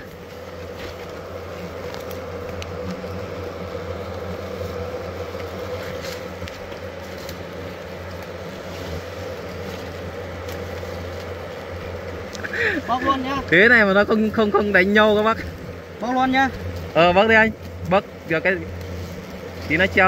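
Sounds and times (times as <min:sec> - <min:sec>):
hornets buzzing: 0:00.0 - 0:20.0.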